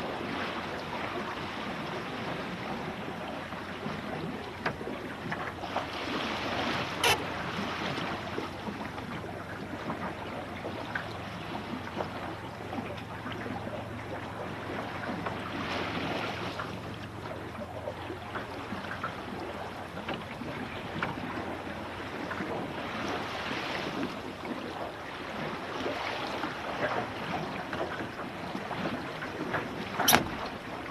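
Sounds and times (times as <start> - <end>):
water rushing along hull: 0.0 - 30.9.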